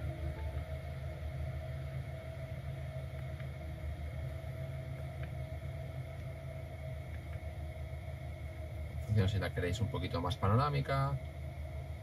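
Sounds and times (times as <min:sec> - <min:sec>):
faint constant tone: 0:00.0 - 0:12.0.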